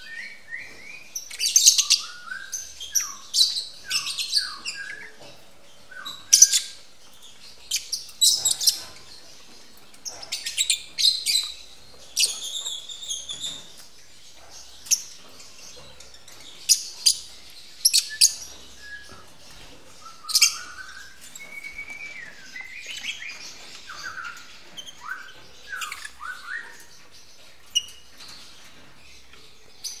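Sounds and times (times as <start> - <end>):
lovebirds chirping: 0.0 - 30.0.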